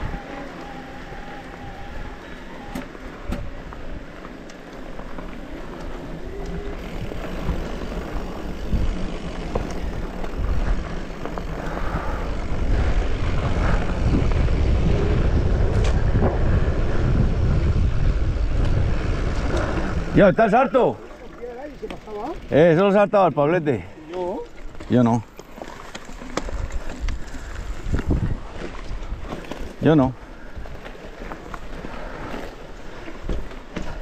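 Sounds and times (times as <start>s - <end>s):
rushing wind: 0.0s - 21.3s, 25.6s - 34.0s
bike rumble on dirt trail: 0.0s - 34.0s.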